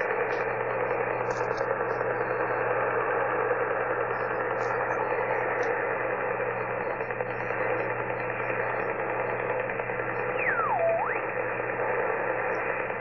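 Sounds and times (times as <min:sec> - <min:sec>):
rapid radio pulsing noise: 0:00.0 - 0:13.0.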